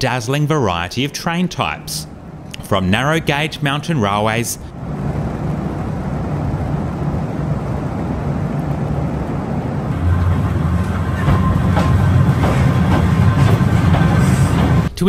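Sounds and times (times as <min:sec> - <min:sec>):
faint whine: 0:00.0 - 0:15.0
train rumbling on rails: 0:00.4 - 0:15.0.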